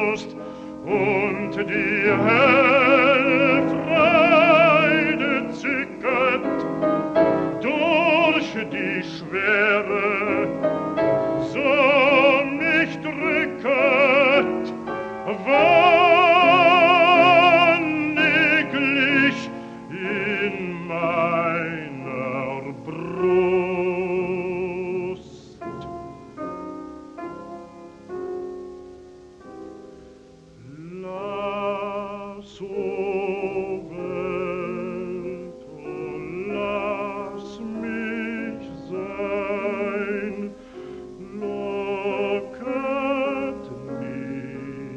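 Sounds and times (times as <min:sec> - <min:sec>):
baritone singing with vibrato: 0:00.0 - 0:26.7, 0:30.5 - 0:44.9
piano accompaniment: 0:00.0 - 0:44.9.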